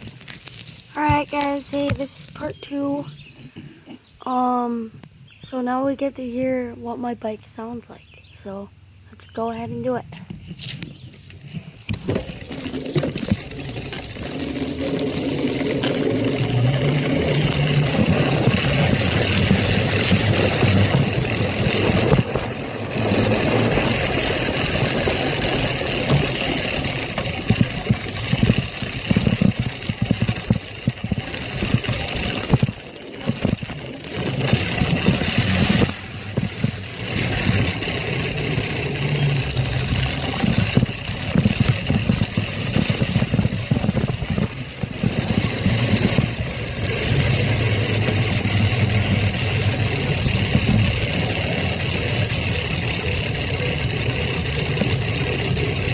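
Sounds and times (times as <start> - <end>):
motorbike engine running: 0.0 - 3.6, 9.4 - 55.9.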